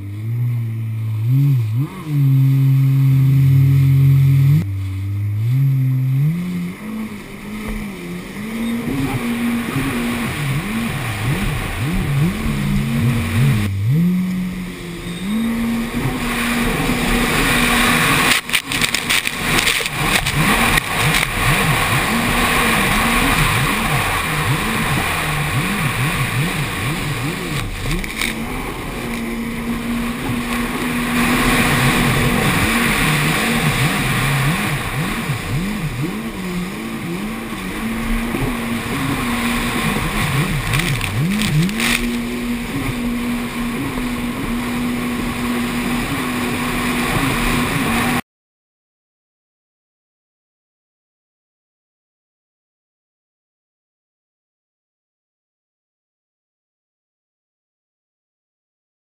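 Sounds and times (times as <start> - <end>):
jet ski engine revving: 0.0 - 48.2
rushing wind: 0.0 - 48.2.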